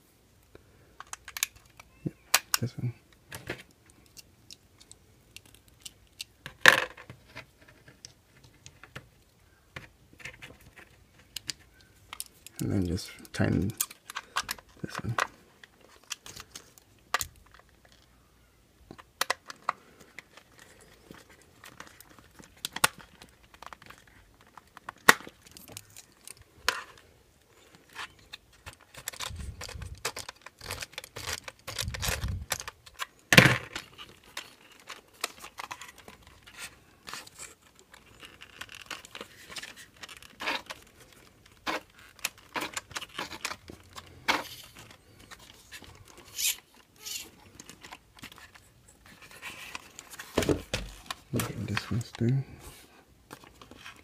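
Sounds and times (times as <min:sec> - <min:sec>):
hands rustling parts: 0:00.9 - 0:18.2, 0:18.8 - 0:54.0.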